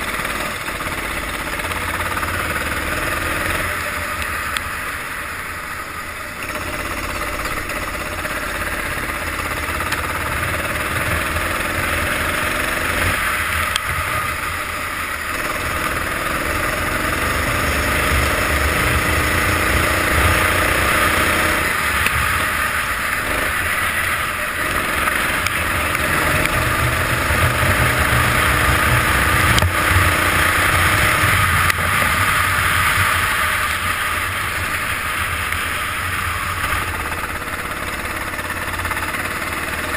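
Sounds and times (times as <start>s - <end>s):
go-kart engine accelerating: 0.0s - 39.9s.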